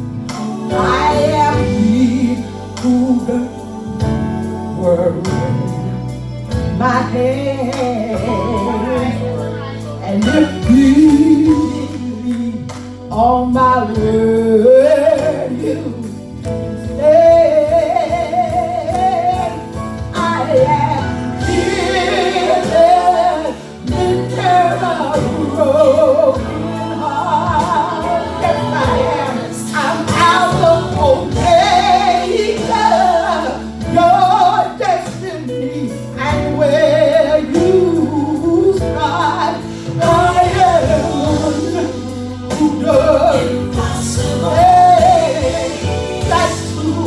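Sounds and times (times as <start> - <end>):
band accompaniment: 0.0 - 47.0
woman singing: 0.0 - 47.0.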